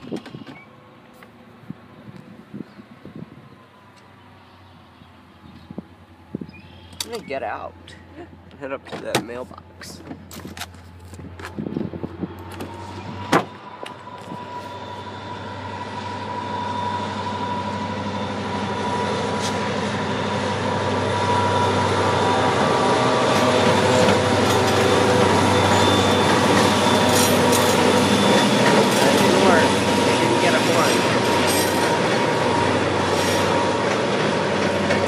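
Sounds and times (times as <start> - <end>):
diesel locomotive engine droning: 0.0 - 35.0.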